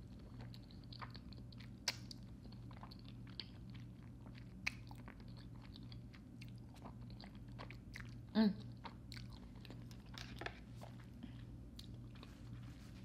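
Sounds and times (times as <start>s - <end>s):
chewing noodles: 0.0s - 12.7s
faint low hum: 0.0s - 13.0s.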